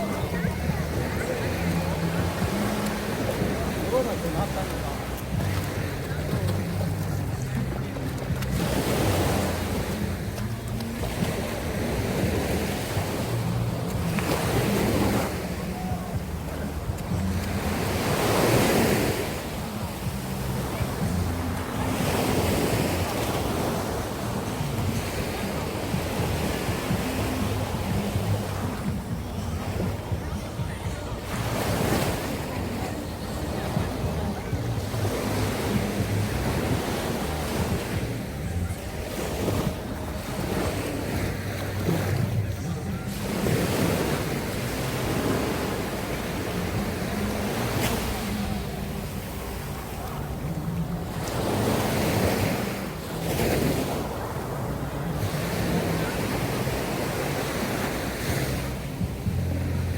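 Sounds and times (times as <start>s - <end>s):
waves breaking on beach: 0.0s - 59.9s
wind on microphone: 0.0s - 59.9s.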